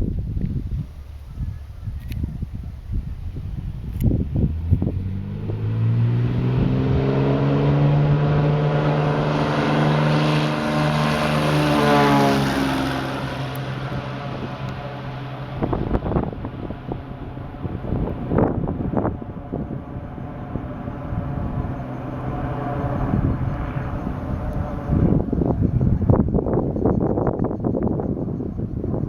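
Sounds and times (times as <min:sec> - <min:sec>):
wind buffeting microphone: 0:00.0 - 0:29.0
propeller plane passing: 0:00.8 - 0:29.0.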